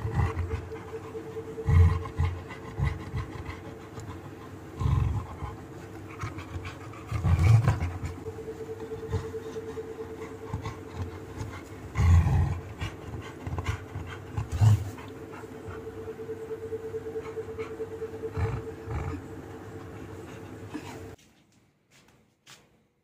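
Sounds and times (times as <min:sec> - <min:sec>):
dog grumbling groans: 0:00.0 - 0:21.2.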